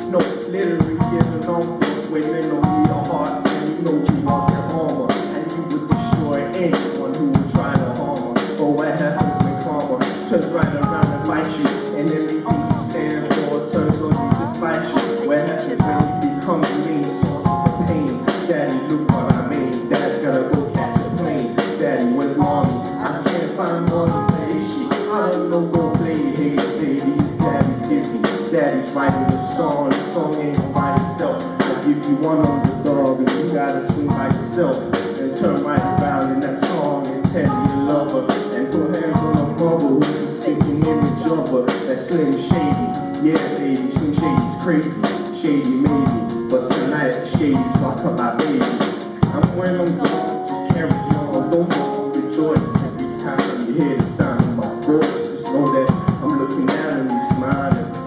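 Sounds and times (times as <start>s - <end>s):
drum kit beat: 0.0s - 58.0s
live band music: 0.0s - 58.0s
man singing into microphone: 0.0s - 58.0s.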